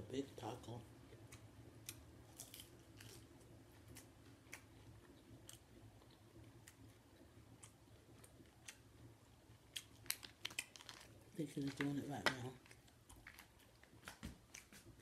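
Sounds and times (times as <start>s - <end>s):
low steady hum: 0.0s - 15.0s
crunchy taco shell chewing: 1.0s - 15.0s.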